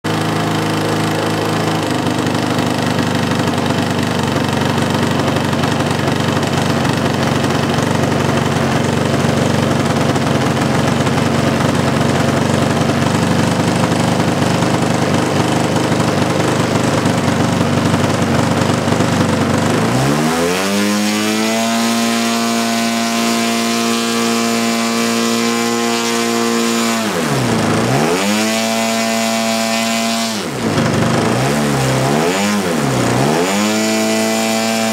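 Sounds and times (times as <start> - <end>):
model plane engine revving: 0.1 - 34.9.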